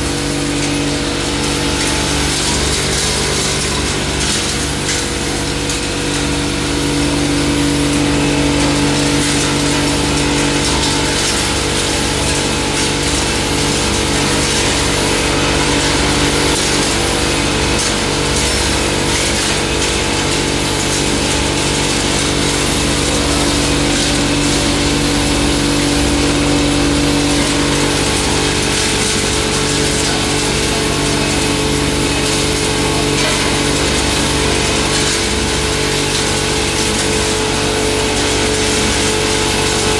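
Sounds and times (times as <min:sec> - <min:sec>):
grinding machine humming: 0:00.0 - 0:39.9.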